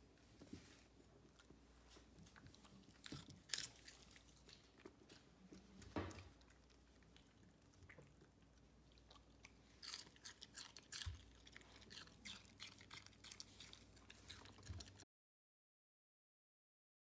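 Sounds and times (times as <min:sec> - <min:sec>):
dog crunching cabbage: 0:01.2 - 0:15.0.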